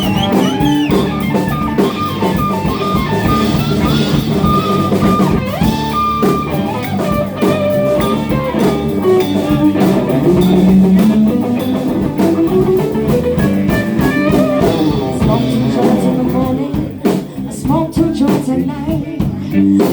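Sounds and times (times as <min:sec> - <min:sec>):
electric guitar lead with bends: 0:00.0 - 0:16.8
bass guitar: 0:00.0 - 0:19.9
drum kit: 0:00.0 - 0:19.9.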